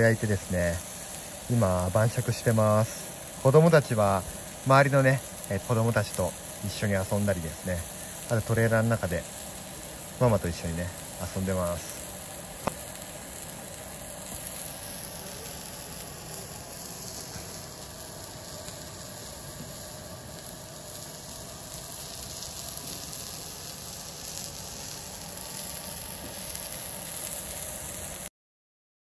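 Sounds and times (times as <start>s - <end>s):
chicken skewers sizzling on grill: 0.0s - 28.3s.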